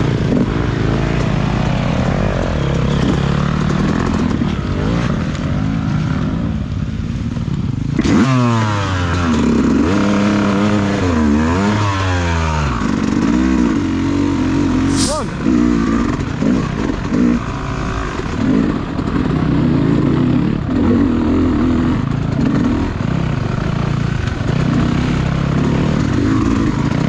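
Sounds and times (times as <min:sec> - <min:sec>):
dirt bike engine revving: 0:00.0 - 0:06.5, 0:08.0 - 0:27.0.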